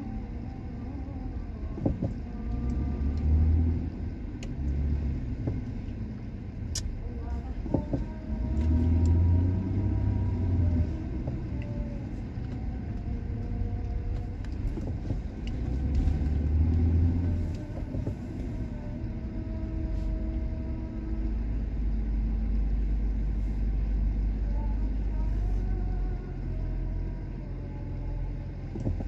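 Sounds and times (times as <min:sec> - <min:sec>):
car engine: 0:00.0 - 0:29.0
road rumble inside car: 0:00.0 - 0:29.0.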